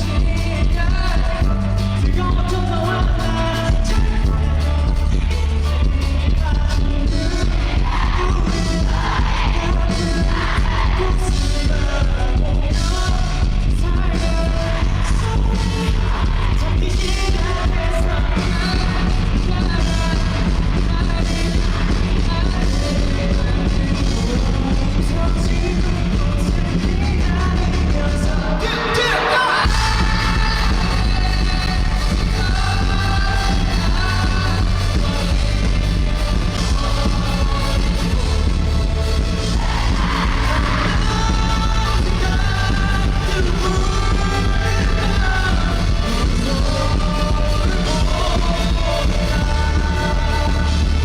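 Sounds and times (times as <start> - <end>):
person singing: 0.0 - 51.0
rock band playing live: 0.0 - 51.0.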